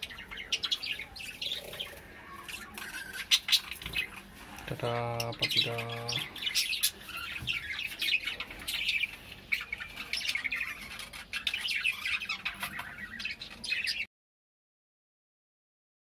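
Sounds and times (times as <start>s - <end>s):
parrots chattering and squawking: 0.0s - 14.1s.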